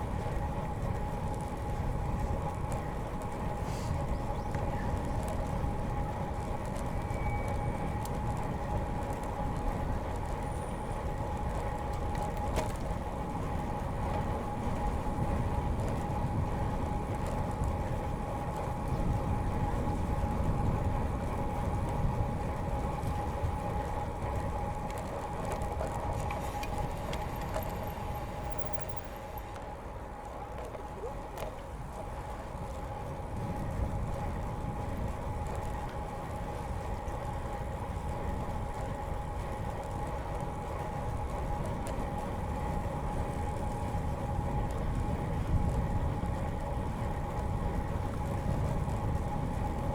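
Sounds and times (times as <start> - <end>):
bike tyres rumbling: 0.0 - 49.9.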